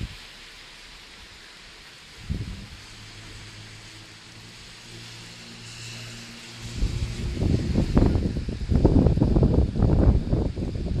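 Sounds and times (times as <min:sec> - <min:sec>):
rain hissing: 0:00.0 - 0:11.0
wind: 0:00.0 - 0:11.0.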